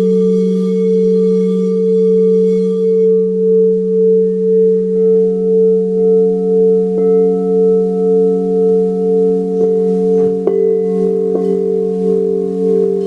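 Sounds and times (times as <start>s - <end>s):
higher-toned singing bowl: 0.0s - 13.0s
singing bowls ringing: 0.0s - 13.0s.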